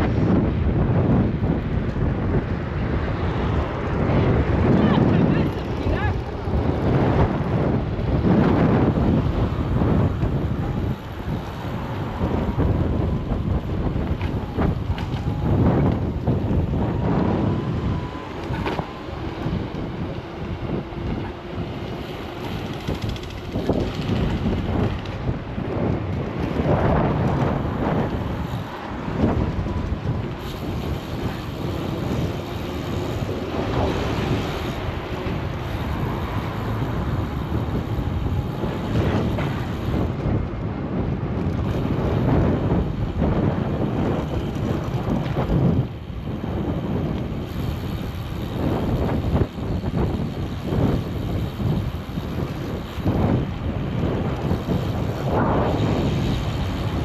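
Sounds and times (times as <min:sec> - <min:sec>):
passing street traffic hum: 0:00.0 - 0:57.0
wind rushing over microphone: 0:00.0 - 0:57.0.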